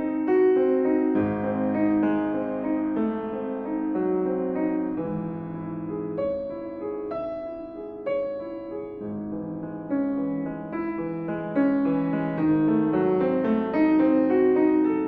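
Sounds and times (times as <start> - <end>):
slow gentle solo piano piece: 0.0 - 15.0.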